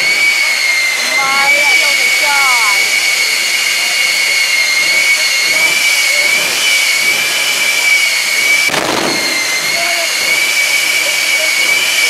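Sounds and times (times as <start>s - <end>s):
burst of rough noise: 0.0s - 12.0s
jet engine whine: 0.0s - 12.0s.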